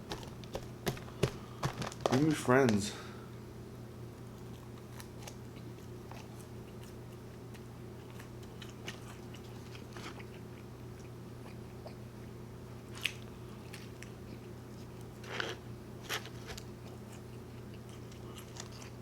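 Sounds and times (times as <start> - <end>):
person chewing food: 0.0 - 2.3, 4.2 - 19.0
steady low hum: 0.0 - 19.0
small crunches and wet clicks: 0.1 - 2.8, 4.3 - 12.0, 12.8 - 19.0.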